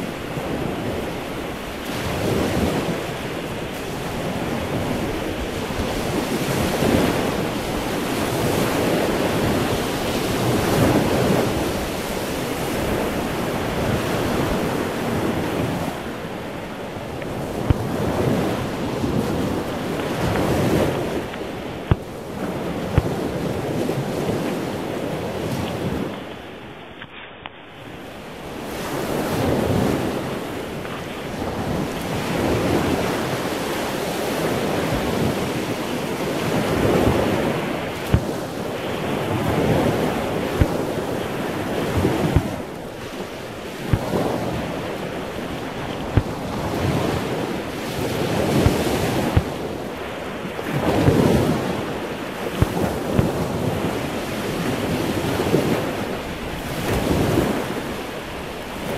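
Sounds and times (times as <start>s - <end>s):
wind buffeting microphone: 0.0s - 26.8s, 27.8s - 58.9s
surf breaking on a beach: 0.0s - 58.9s.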